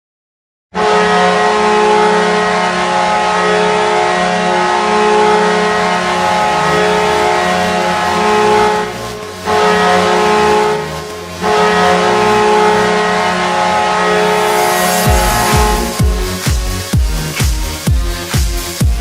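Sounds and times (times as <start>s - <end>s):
goal horn long low blast: 0.7s - 17.2s.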